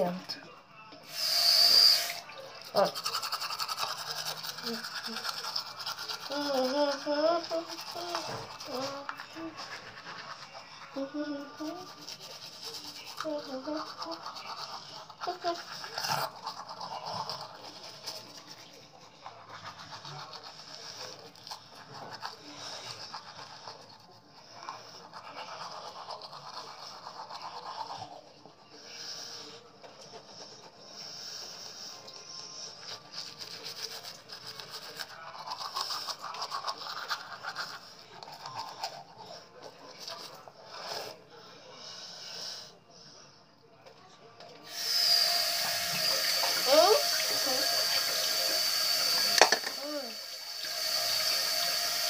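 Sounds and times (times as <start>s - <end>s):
toothbrush scrubbing teeth: 1.0s - 42.8s, 44.6s - 52.0s.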